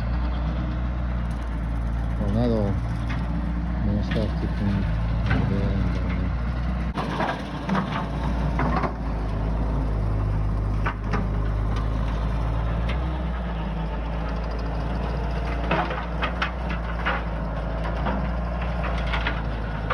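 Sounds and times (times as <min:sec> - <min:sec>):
skid steer engine running: 0:00.0 - 0:19.9.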